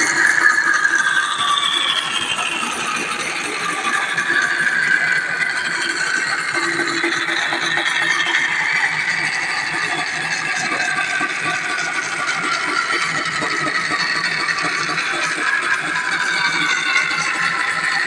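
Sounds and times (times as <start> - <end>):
woodworking machine rattling and whining: 0.0 - 18.0.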